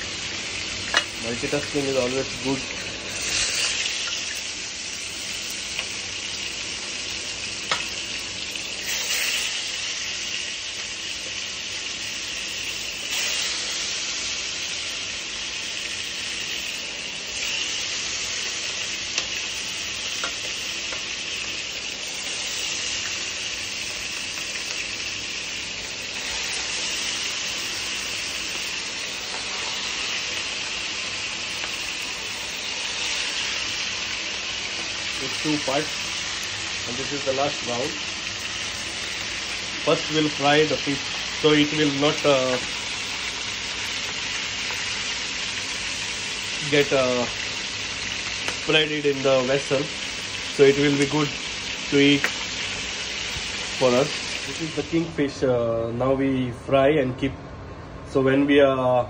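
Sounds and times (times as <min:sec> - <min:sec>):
fish frying in hot oil: 0:00.0 - 0:55.3.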